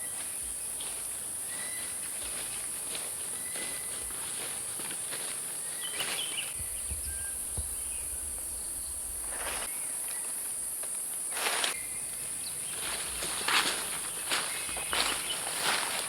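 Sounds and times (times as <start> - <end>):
footsteps on leaf litter: 0.0 - 16.0
high-pitched insect chorus: 0.0 - 16.0.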